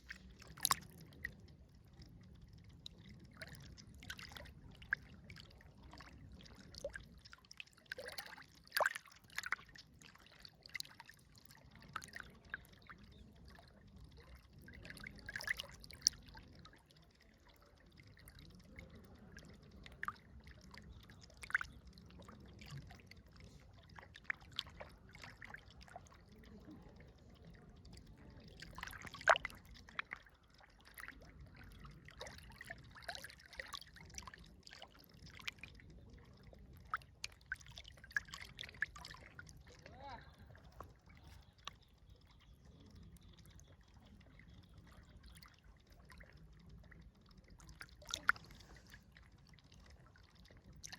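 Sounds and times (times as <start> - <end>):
river water trickling: 0.0 - 50.9
small splashes and drips: 0.0 - 50.9.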